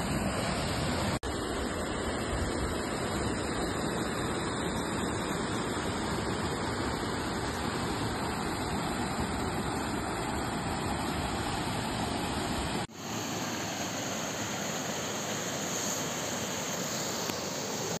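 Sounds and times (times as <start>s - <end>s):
waterfall rushing into pool: 0.0s - 18.0s.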